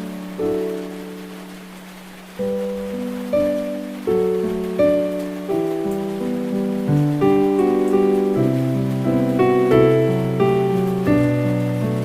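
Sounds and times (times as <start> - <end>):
rain falling on leaves: 0.0 - 12.0
slow piano music: 0.0 - 12.0.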